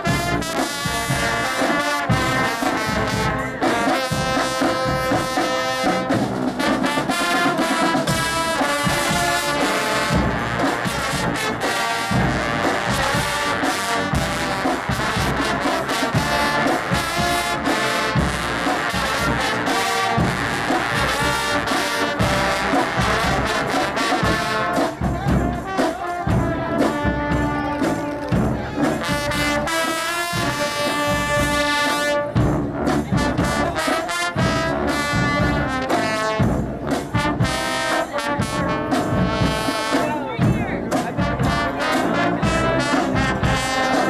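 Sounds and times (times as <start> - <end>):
low brass band playing chords: 0.0 - 44.0.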